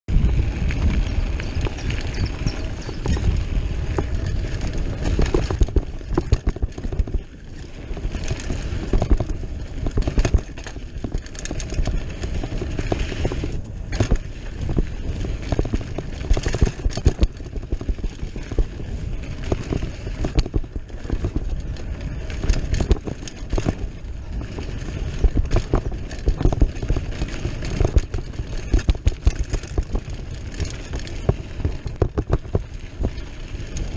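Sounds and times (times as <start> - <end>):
tyres rumbling on dirt: 0.1 - 33.9
bike knocks and rattles: 0.2 - 33.9.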